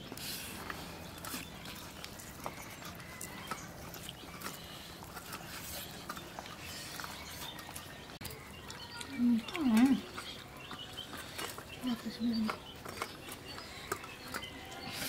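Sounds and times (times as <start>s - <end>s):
chewing smacks: 0.0s - 15.0s.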